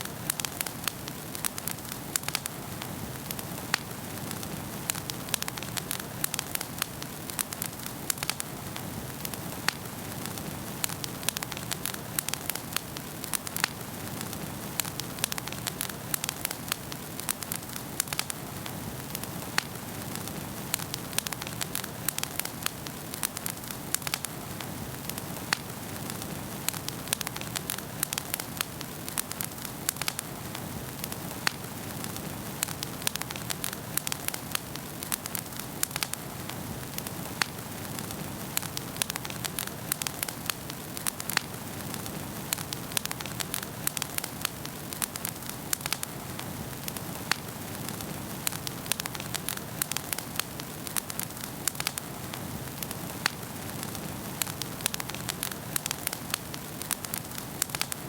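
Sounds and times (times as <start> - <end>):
soft hiss of fire: 0.0 - 58.0
wood fire crackling and popping: 0.0 - 58.0.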